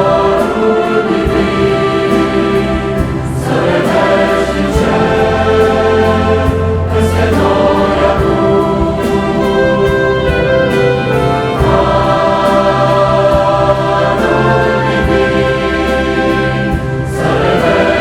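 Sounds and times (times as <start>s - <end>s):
choir singing a worship song: 0.0s - 18.0s
orchestral accompaniment: 0.0s - 18.0s.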